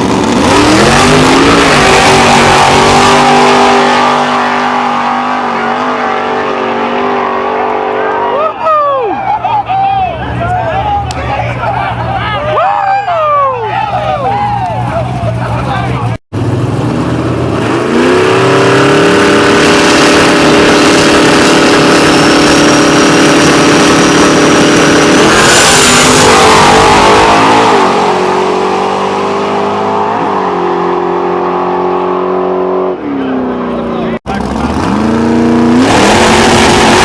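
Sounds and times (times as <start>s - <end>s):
racing car engine revving: 0.0s - 8.6s, 13.9s - 37.0s.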